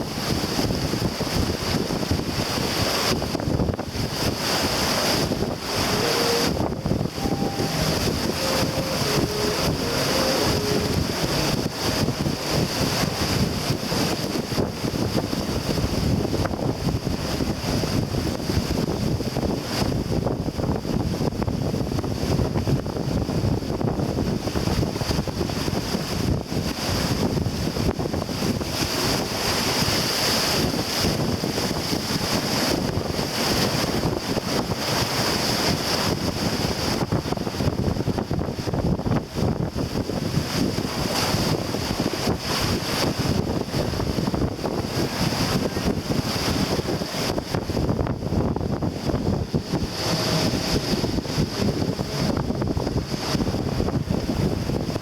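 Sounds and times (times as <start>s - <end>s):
water rushing along hull: 0.0s - 55.0s
wind buffeting microphone: 0.0s - 55.0s.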